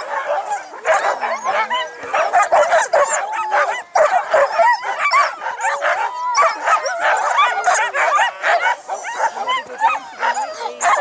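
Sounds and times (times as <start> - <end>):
sled dogs barking and yipping: 0.0 - 11.0.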